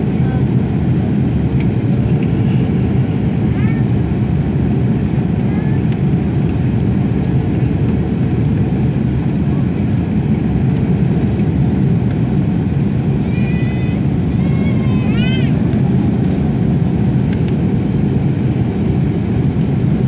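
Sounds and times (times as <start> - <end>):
aircraft cabin engine roar: 0.0 - 20.0.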